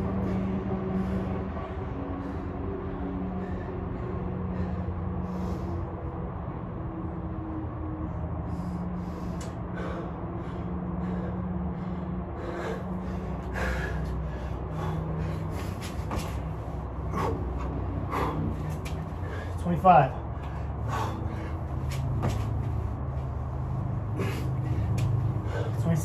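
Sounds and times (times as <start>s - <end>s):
person breathing hard: 0.0s - 6.5s, 8.2s - 26.0s
low hum: 0.0s - 26.0s.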